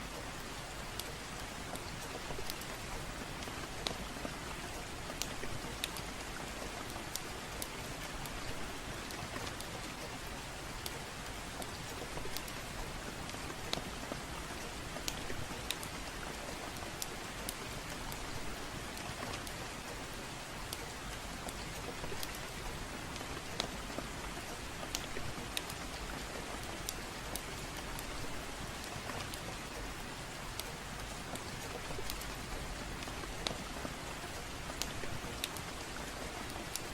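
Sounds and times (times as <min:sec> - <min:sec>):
gentle rain: 0:00.0 - 0:36.9
wood fire crackling and popping: 0:01.0 - 0:09.8, 0:10.8 - 0:20.0, 0:20.6 - 0:23.7, 0:24.4 - 0:29.8, 0:30.4 - 0:36.9.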